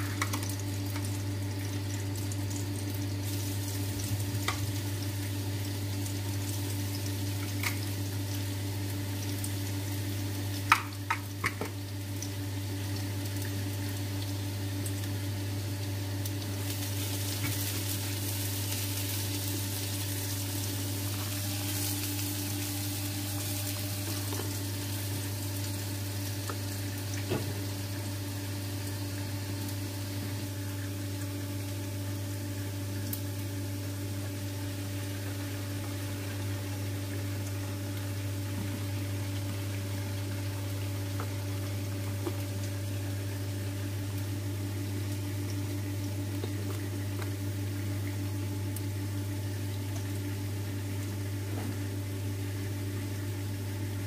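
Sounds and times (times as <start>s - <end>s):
food sizzling in frying pan: 0.0s - 49.3s.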